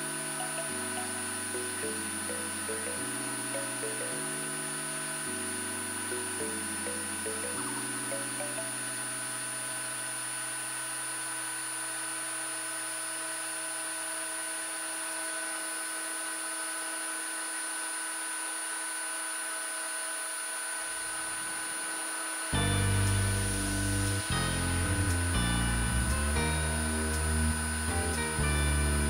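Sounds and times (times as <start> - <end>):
constant high whine: 0.0 - 29.0.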